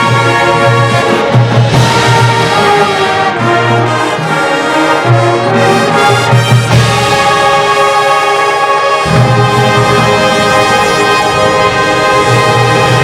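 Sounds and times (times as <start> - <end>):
marching band brass chords: 0.0 - 13.0.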